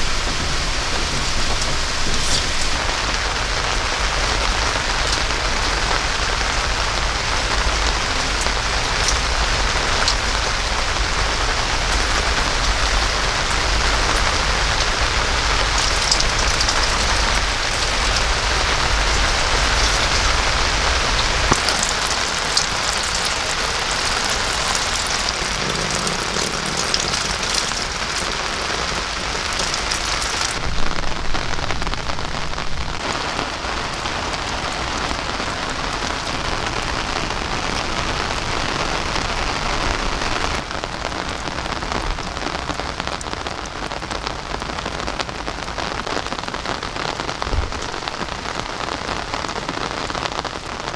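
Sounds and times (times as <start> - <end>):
heavy rain falling: 0.0 - 50.9
raindrops ticking: 0.0 - 50.9.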